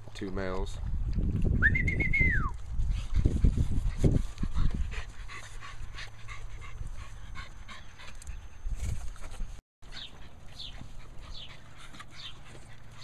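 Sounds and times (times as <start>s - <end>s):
puppies panting and snuffling: 2.5s - 13.0s.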